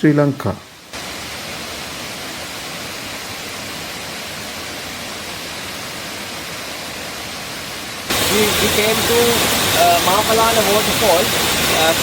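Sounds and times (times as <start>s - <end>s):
waterfall rushing: 0.7s - 12.0s.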